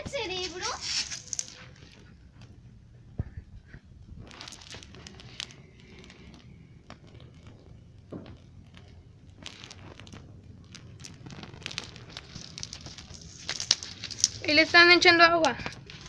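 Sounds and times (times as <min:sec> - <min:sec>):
brush fire crackling: 0:00.0 - 0:16.0.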